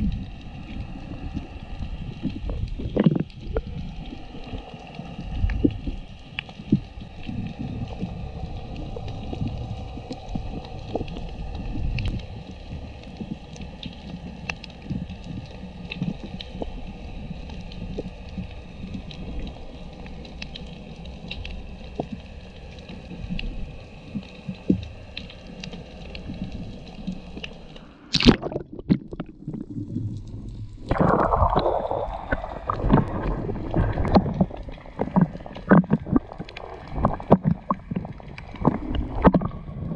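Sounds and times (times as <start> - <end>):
low underwater rumbling: 0.0 - 39.9
rushing water noise: 0.0 - 39.9.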